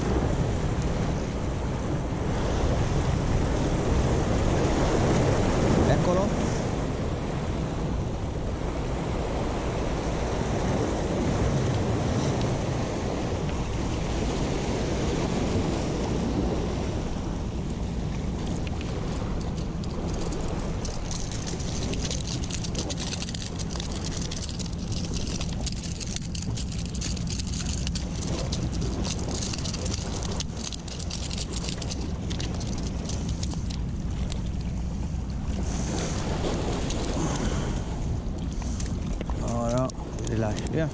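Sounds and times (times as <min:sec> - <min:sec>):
surf washing against rocks: 0:00.0 - 0:40.9
wind buffeting microphone: 0:00.0 - 0:40.9.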